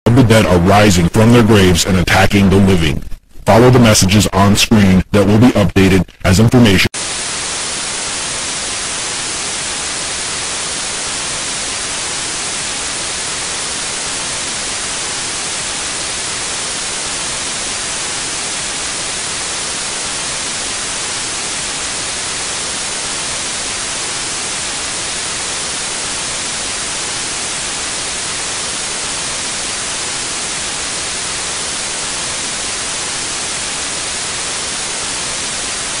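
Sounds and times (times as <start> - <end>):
television static hiss: 0.1 - 36.0.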